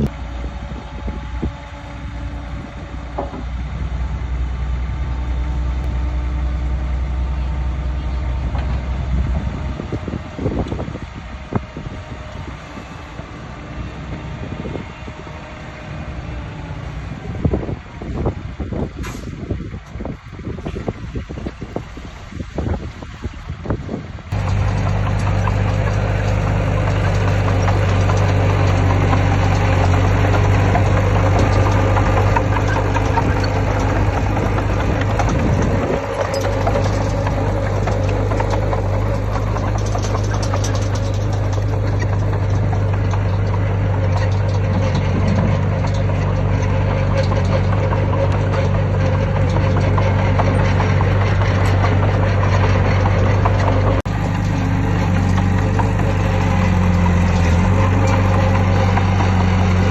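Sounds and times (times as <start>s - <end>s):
heavy diesel machinery rumbling: 0.0s - 59.9s.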